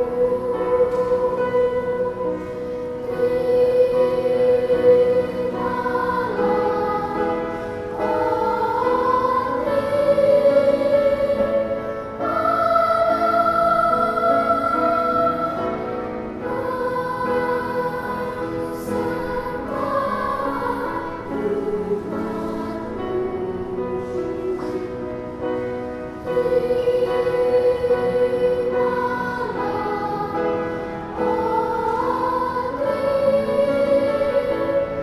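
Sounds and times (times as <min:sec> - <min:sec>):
children's choir singing: 0:00.0 - 0:35.0.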